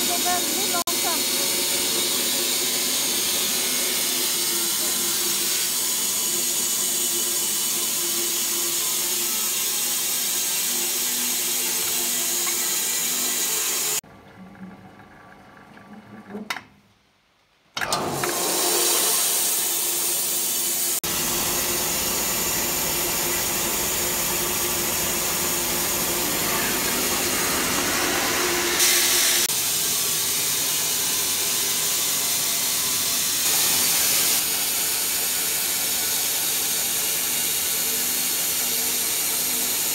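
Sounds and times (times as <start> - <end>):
band sawmill sawing a log: 0.0 - 14.0, 18.3 - 39.9.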